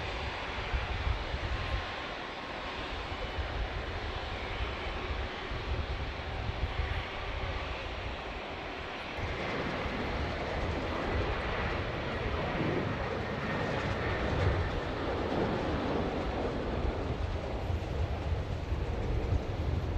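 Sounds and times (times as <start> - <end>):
jet engine rushing and rumbling: 0.0 - 19.9.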